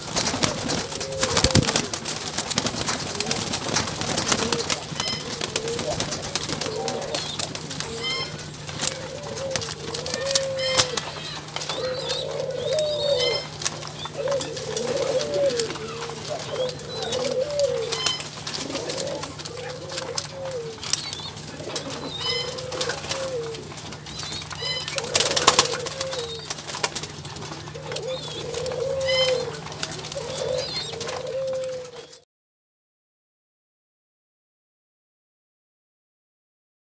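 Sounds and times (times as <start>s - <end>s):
doves cooing: 0.0s - 32.2s.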